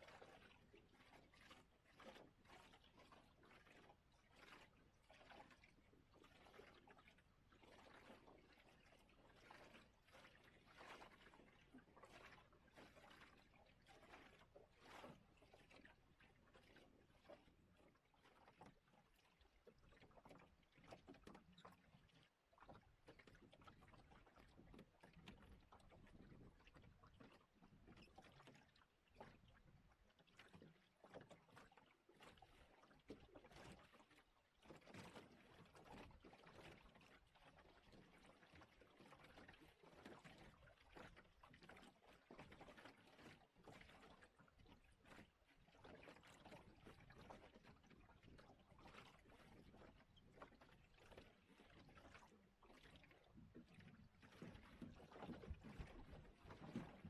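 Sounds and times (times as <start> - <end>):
water splashing against hull: 0.0 - 57.0.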